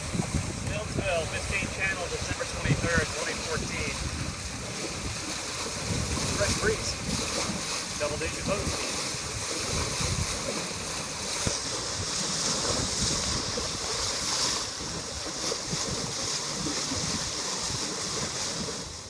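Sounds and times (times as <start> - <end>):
water rushing past a hull: 0.0 - 19.0
wind buffeting microphone: 0.0 - 19.0.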